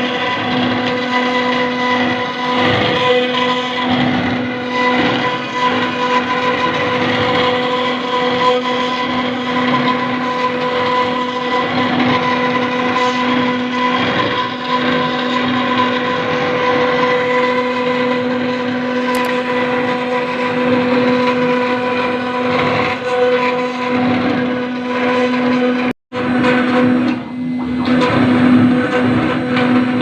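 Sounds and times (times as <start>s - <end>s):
router spindle cutting stone: 0.0s - 30.0s.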